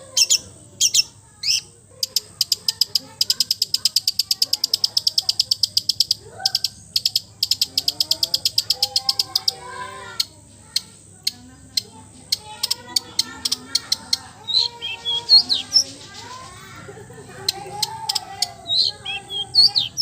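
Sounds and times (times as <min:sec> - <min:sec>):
low bird chattering: 0:00.0 - 0:20.0
fast high bird chips: 0:00.1 - 0:11.0, 0:12.2 - 0:20.0
sharp bird ticks: 0:00.2 - 0:20.0.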